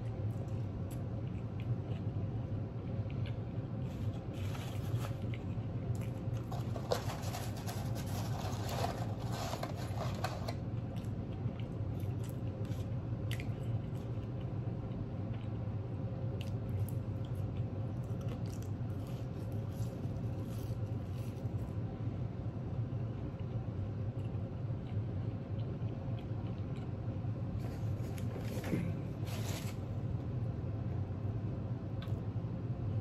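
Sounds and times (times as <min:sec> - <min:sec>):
person chewing food: 0:00.0 - 0:21.8, 0:23.1 - 0:29.9
steady low hum: 0:00.0 - 0:33.0.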